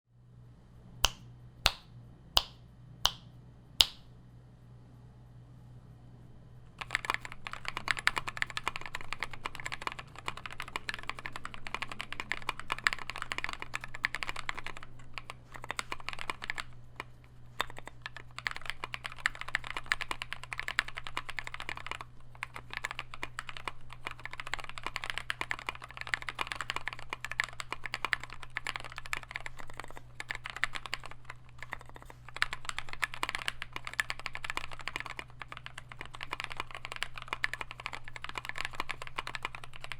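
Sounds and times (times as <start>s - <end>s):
fast typing on mechanical keyboard: 6.8s - 39.9s.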